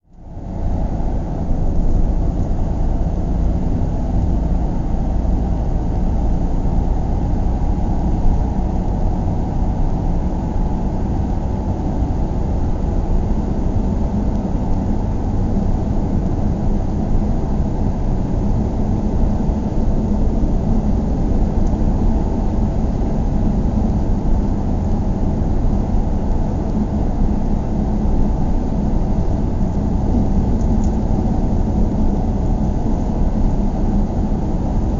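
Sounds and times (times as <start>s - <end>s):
car engine rumble: 0.0s - 34.9s.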